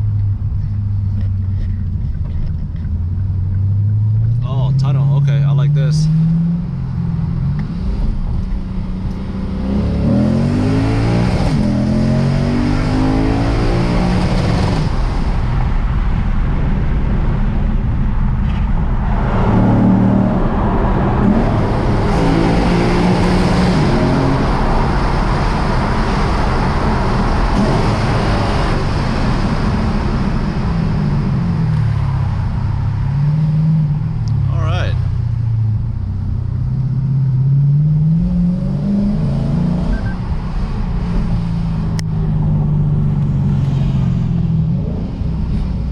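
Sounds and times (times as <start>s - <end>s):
car engine accelerating hard: 0.0s - 45.9s
road noise: 0.0s - 45.9s.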